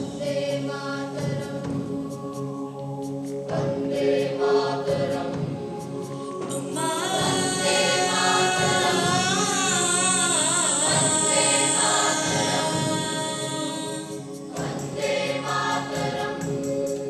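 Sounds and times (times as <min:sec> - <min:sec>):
choir singing long held notes: 0:00.0 - 0:17.0.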